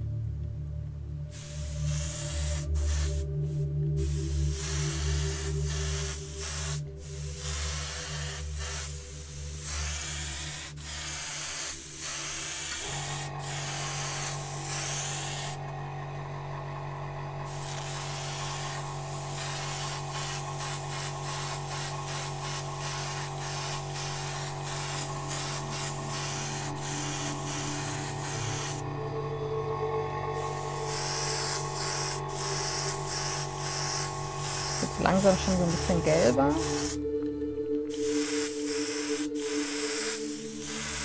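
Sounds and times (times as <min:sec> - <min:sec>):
low steady hum: 0:00.0 - 0:07.6, 0:12.8 - 0:39.6
airbrush spraying hiss: 0:01.3 - 0:15.6, 0:17.5 - 0:28.9, 0:30.4 - 0:37.1, 0:37.9 - 0:41.0.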